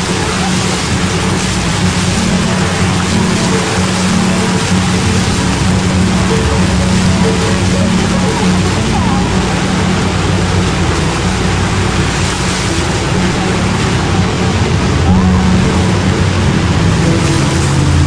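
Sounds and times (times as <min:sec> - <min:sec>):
faint voices: 0:00.0 - 0:18.0
motorboat engine running: 0:00.0 - 0:18.0
rushing water: 0:00.0 - 0:18.0.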